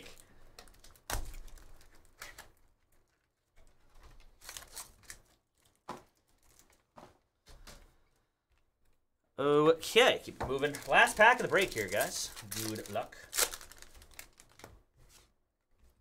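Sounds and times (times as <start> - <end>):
plastic wrap crinkling: 0.0 - 8.2, 9.8 - 15.3.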